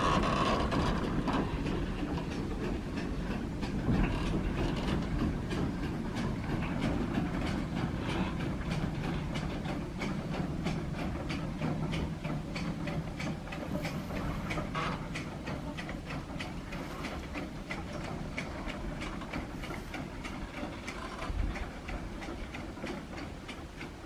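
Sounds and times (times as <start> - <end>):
rhythmic clicking of rail vehicle: 0.0 - 24.0.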